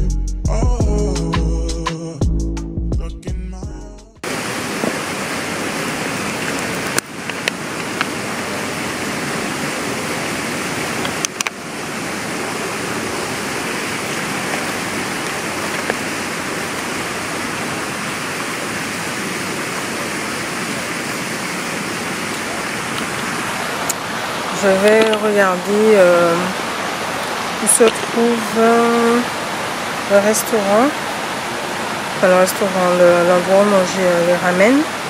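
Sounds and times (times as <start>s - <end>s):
fountain water splashing: 4.2s - 35.0s.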